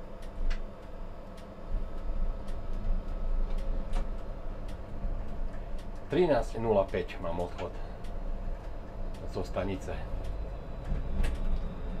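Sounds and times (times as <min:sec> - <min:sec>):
low rumble: 0:00.0 - 0:12.0
tram electrical hum: 0:00.0 - 0:12.0.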